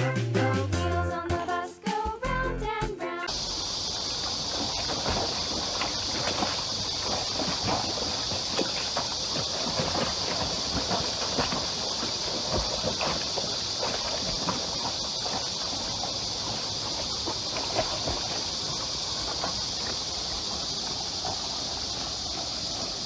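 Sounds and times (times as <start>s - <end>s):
dog splashing through water: 3.3s - 23.0s
steady high hiss: 3.3s - 23.0s.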